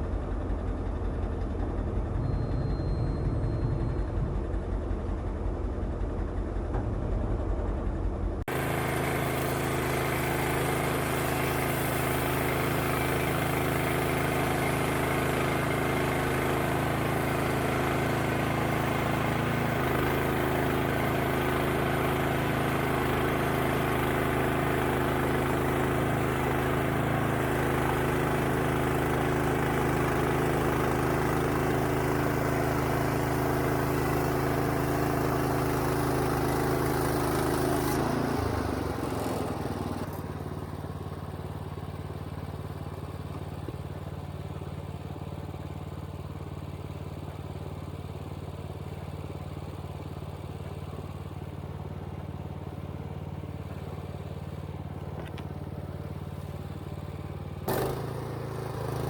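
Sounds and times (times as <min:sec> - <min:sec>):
different engine sound: 0:00.0 - 0:59.0
engine running: 0:00.0 - 0:59.0.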